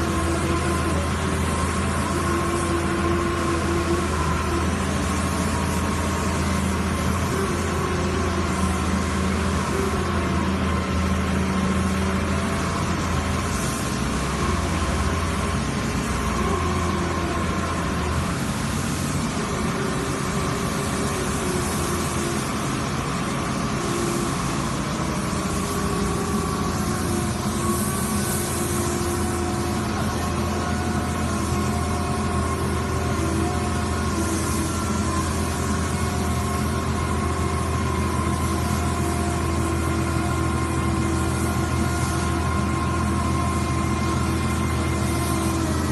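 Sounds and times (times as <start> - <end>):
excavator diesel engine: 0.0 - 45.9
hydraulic auger boring into soil: 0.0 - 45.9.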